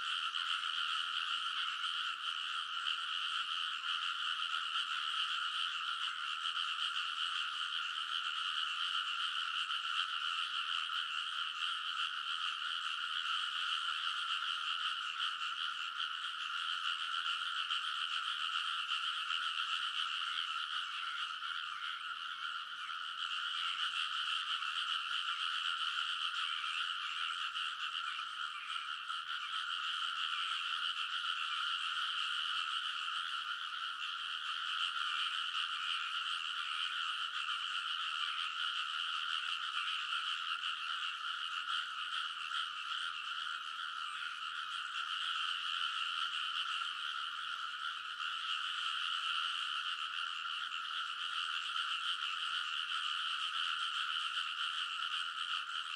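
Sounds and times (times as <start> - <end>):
frogs chorus: 0.0 - 55.9.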